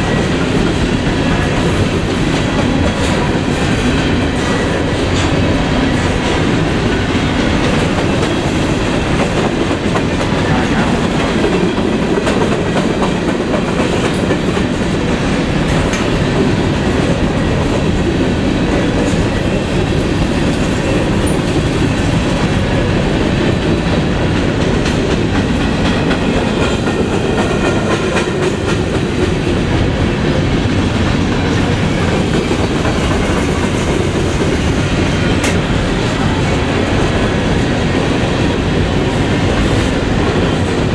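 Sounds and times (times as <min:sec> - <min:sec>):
freight train cars rumbling: 0:00.0 - 0:40.9.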